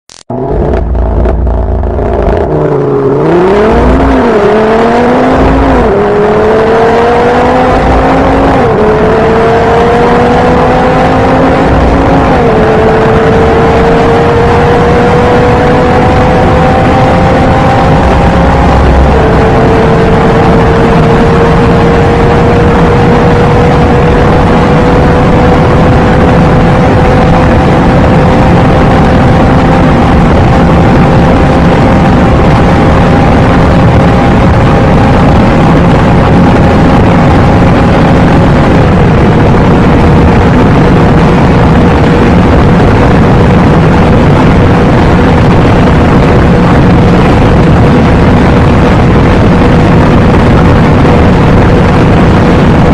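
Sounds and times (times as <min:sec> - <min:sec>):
car engine roaring at speed: 0:00.0 - 0:52.9.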